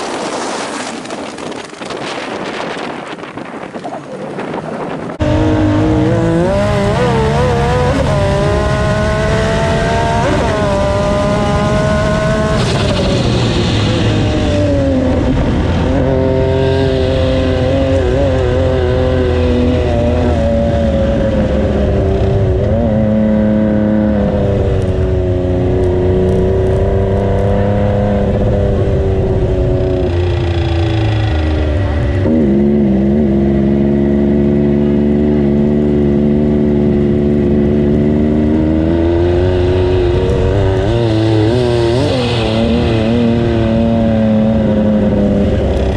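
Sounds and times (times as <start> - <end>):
engine running hard: 2.4 - 45.9.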